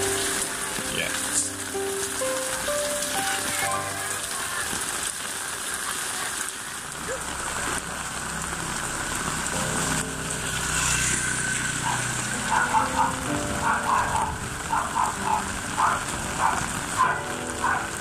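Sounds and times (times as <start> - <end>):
steady rain falling: 0.0 - 18.0
water running in a concrete channel: 0.0 - 18.0.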